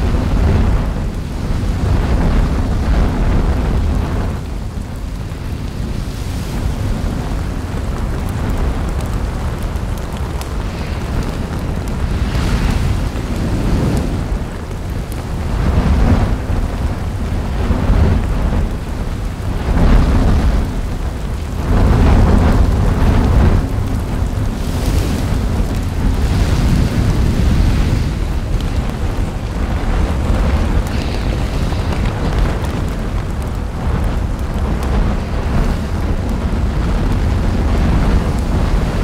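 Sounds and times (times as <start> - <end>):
crackling lava spatter: 0.0 - 39.0
lava fountain roaring: 0.0 - 39.0.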